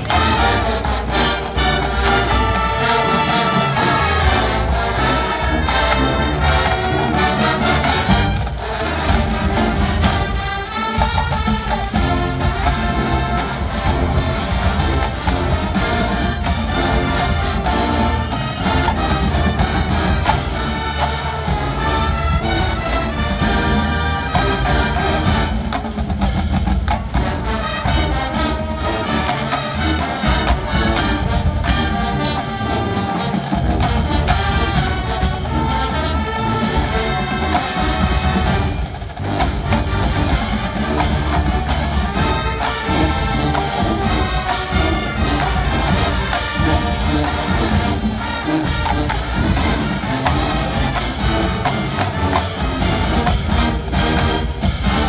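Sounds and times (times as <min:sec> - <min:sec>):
drum line percussion: 0:00.0 - 0:55.0
marching band brass: 0:00.0 - 0:55.0.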